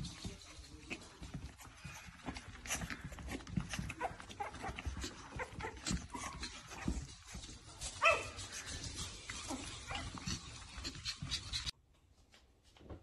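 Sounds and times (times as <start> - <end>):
puppies rustling and scrabbling: 0.0 - 11.8.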